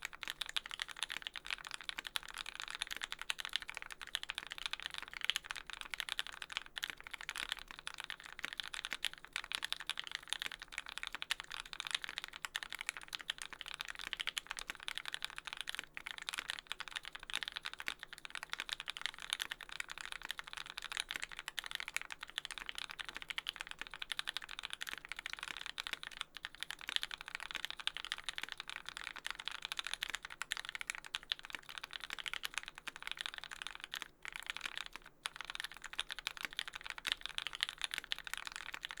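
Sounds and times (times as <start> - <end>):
fast mechanical keyboard typing: 0.0 - 39.0.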